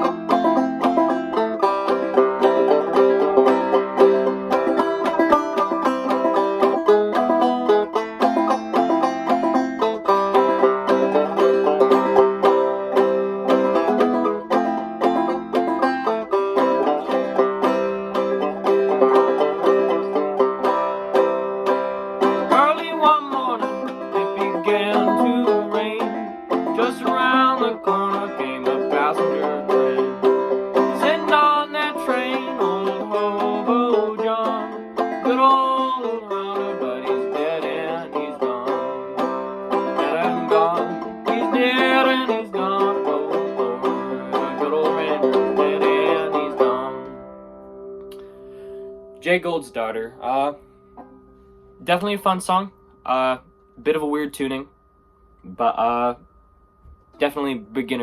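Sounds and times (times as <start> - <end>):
banjo plucked notes: 0.0 - 58.0.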